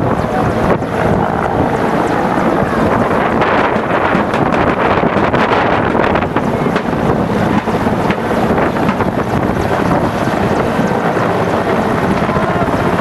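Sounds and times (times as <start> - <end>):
helicopter rotor and engine: 0.0 - 13.0
wind buffeting microphone: 0.0 - 13.0.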